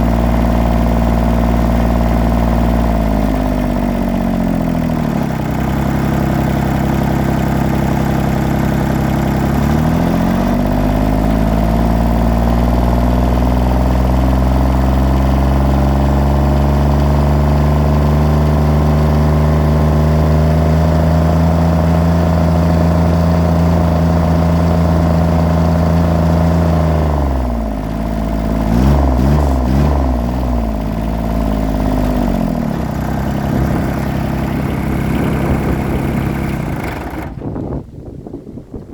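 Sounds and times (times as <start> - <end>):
diesel tractor engine misfiring: 0.0 - 37.8.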